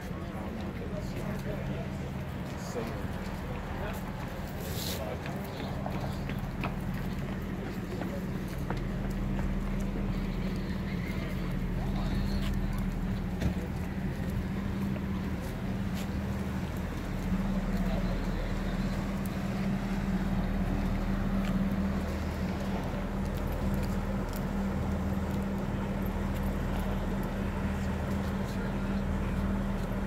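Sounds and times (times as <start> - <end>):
boat engine running: 1.6 - 30.0.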